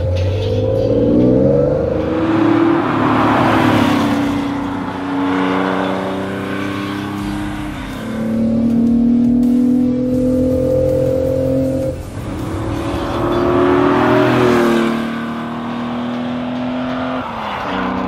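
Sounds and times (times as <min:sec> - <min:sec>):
car passing by: 0:00.0 - 0:10.2, 0:12.0 - 0:18.0
car engine accelerating: 0:00.0 - 0:18.0.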